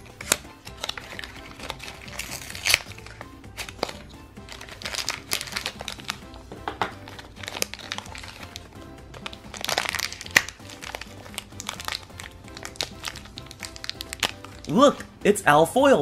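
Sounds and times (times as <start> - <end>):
wrapper crinkling: 0.0 - 15.1
soft background music: 0.0 - 16.0.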